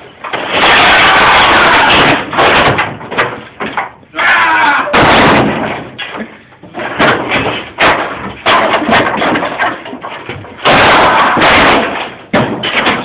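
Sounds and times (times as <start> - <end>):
loud knocks and bangs: 0.0 - 4.1, 4.9 - 13.0.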